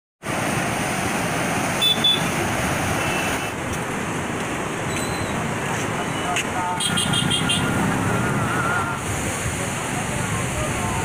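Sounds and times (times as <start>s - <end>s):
floodwater rushing past bridge piers: 0.2s - 11.0s.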